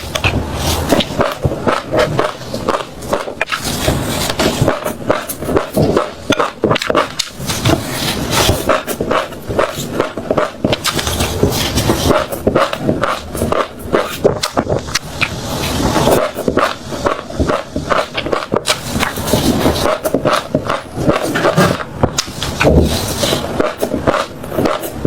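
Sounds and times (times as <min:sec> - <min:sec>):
crunchy food chewing: 0:00.0 - 0:25.0.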